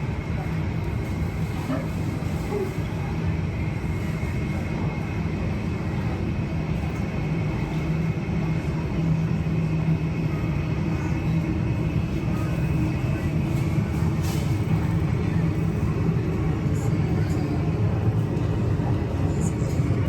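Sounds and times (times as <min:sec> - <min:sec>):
machinery rumbling with hum: 0:00.0 - 0:20.0.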